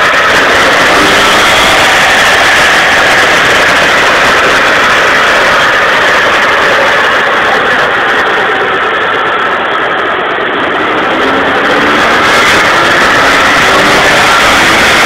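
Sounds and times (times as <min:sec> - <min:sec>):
car engine revving on dynamometer: 0:00.0 - 0:15.0
loud steady rush: 0:00.0 - 0:15.0.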